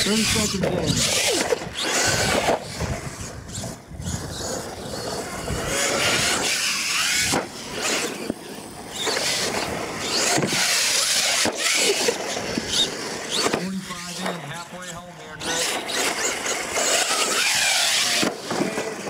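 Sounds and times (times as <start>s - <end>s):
tires scrabbling on dirt: 0.0s - 19.0s
toy truck motor whining: 0.0s - 19.0s.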